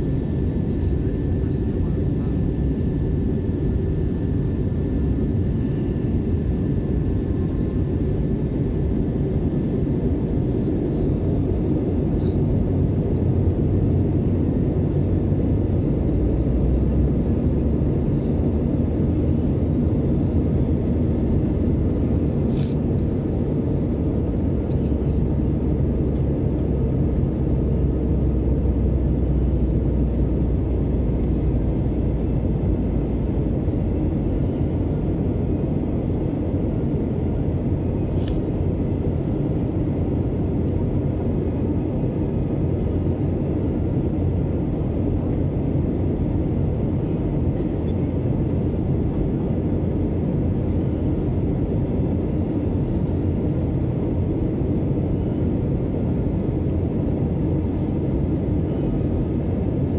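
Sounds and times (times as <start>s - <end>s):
low hum: 0.0s - 58.0s
airliner engines and airflow rush: 0.0s - 59.9s.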